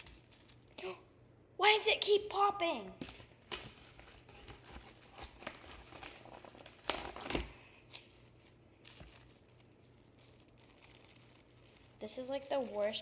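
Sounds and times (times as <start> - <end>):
plastic cling wrap crinkling: 0.0 - 0.8, 3.1 - 13.0.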